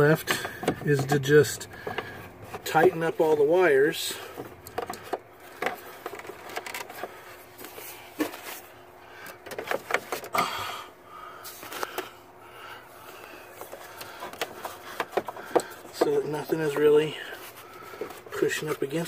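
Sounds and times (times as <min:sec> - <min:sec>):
cables rustling against plastic: 0:00.0 - 0:10.5, 0:11.4 - 0:19.0.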